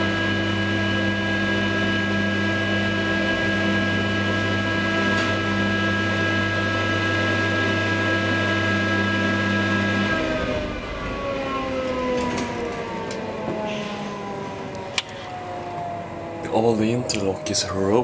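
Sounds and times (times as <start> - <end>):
elevator machinery humming: 0.0 - 18.0.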